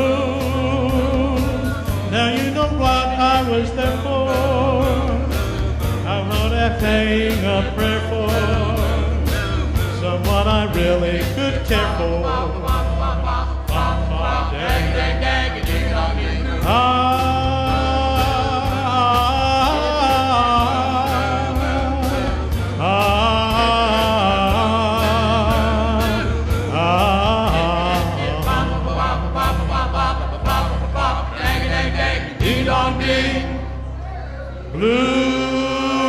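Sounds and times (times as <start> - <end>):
male vocal group singing harmonies: 0.0 - 36.0.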